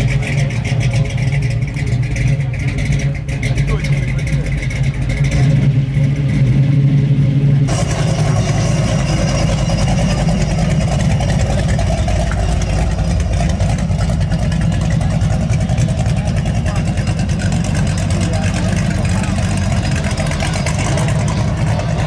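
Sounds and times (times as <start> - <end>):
car engine low exhaust note: 0.0 - 22.0
car rolling away rough exhaust: 0.0 - 22.0.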